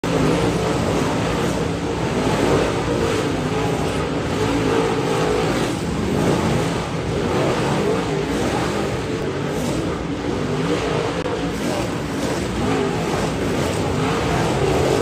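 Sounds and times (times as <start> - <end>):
race car engines running hard: 0.0 - 15.0.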